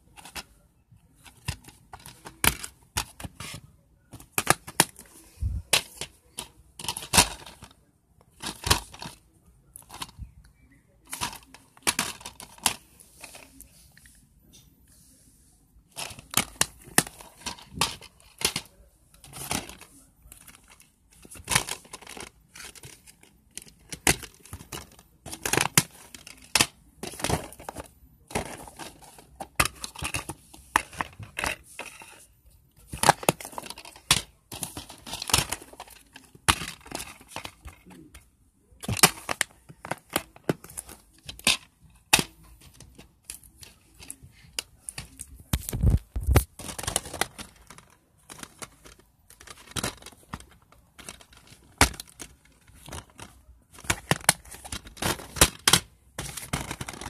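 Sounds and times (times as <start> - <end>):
plastic cases clicking and rustling: 0.0 - 0.6, 1.2 - 10.3, 11.0 - 13.6, 15.9 - 57.0.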